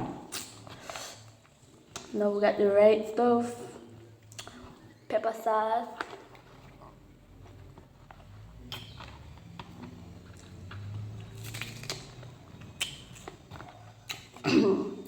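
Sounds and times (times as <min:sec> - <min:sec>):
person chewing fruit: 0:00.0 - 0:02.2, 0:04.0 - 0:05.0, 0:05.9 - 0:15.0.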